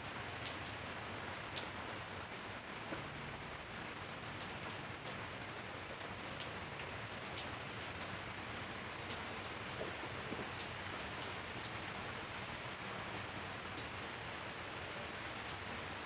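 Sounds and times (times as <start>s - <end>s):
rain on concrete and leaves: 0.0s - 16.0s.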